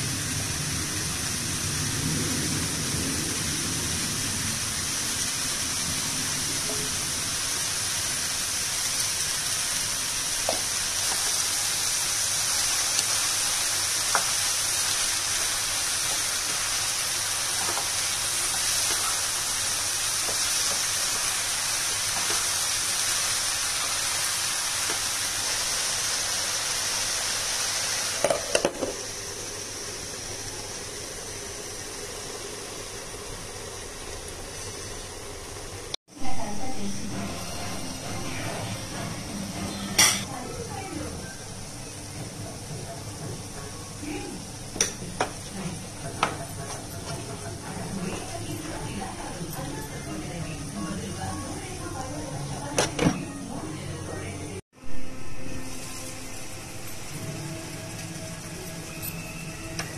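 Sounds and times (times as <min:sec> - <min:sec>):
vegetables sizzling in a pan: 0:00.0 - 0:53.6, 0:55.2 - 0:59.9.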